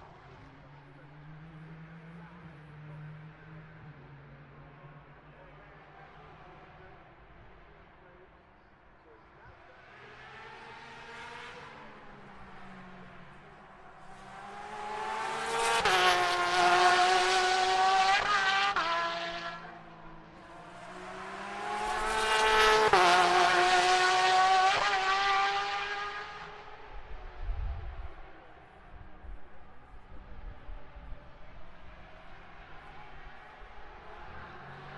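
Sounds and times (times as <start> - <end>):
race cars passing at speed: 0.0 - 34.9.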